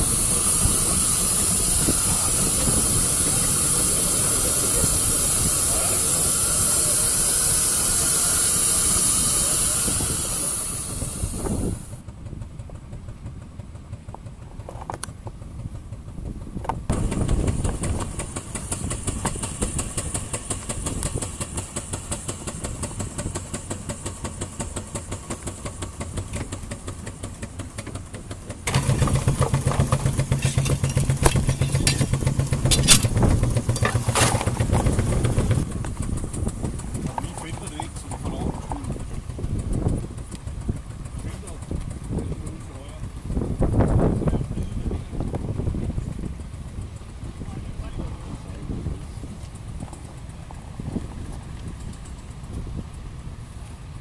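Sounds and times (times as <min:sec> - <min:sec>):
steady low hum: 0:00.0 - 0:54.0
steam engine running: 0:00.0 - 0:54.0.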